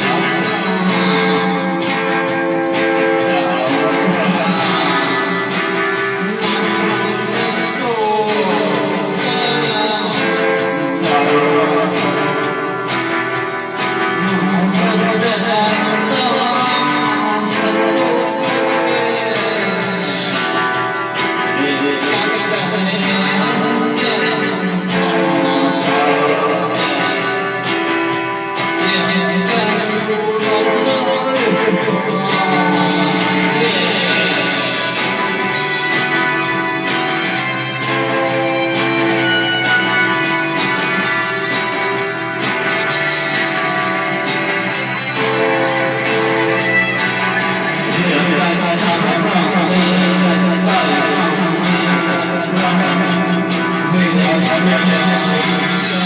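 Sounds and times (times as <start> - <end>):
strummed guitar chords: 0.0 - 56.0.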